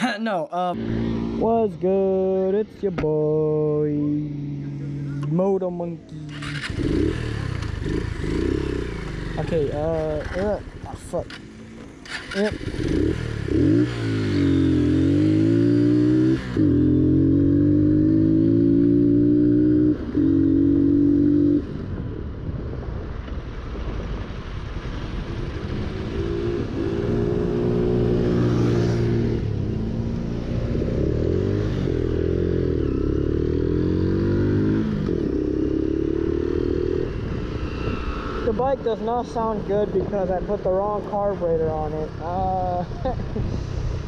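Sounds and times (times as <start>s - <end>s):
motorcycle engine revving: 0.7s - 21.9s, 25.0s - 44.0s.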